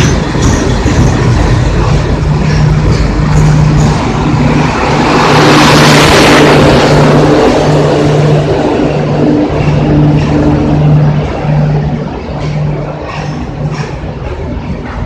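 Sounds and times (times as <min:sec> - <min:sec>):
low hum: 0:00.0 - 0:15.0
train coaches rolling past: 0:00.0 - 0:15.0.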